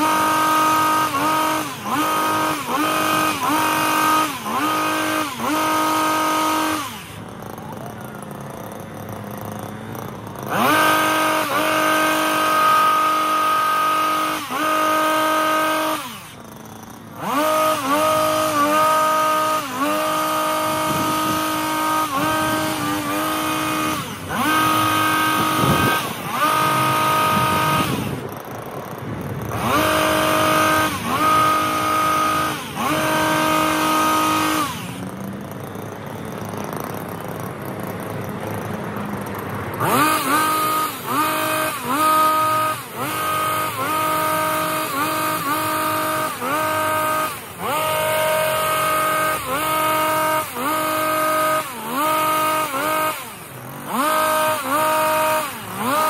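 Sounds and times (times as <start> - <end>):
hedge trimmer engine revving: 0.0 - 56.0.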